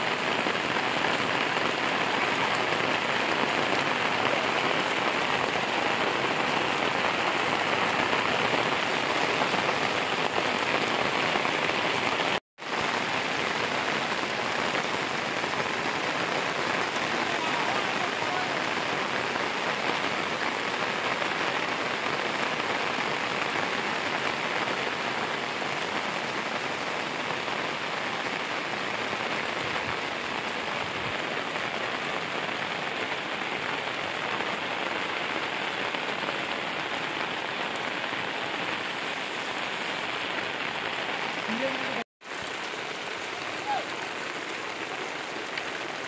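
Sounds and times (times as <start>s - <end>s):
heavy rain on tarpaulin: 0.0s - 46.0s.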